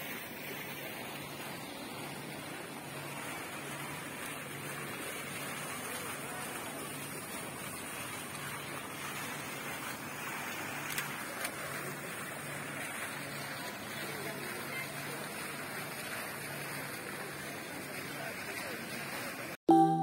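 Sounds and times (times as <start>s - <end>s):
water running over edges: 0.0s - 19.6s
fountain splashing into pool: 0.0s - 20.0s.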